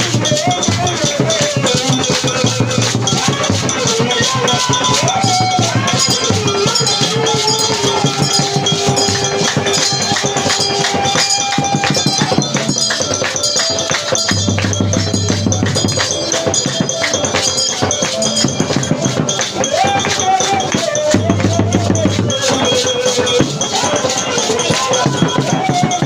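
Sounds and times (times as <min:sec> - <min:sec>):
drums and hand percussion: 0:00.0 - 0:26.0.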